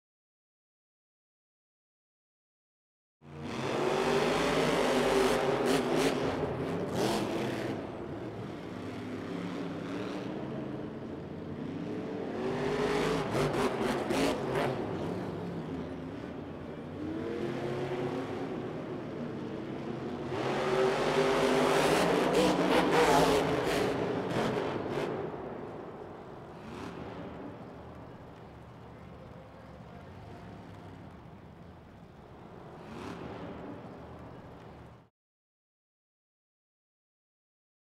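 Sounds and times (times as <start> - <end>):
truck engines revving: 3.3 - 35.1.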